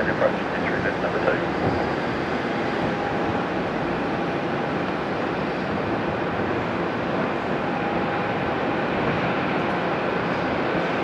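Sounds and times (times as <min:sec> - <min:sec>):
jet engines at takeoff thrust: 0:00.0 - 0:11.0.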